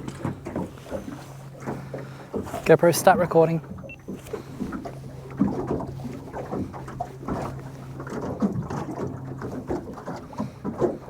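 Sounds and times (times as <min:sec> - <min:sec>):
steady low hum: 0:00.0 - 0:11.0
water lapping and splashing: 0:00.0 - 0:11.0.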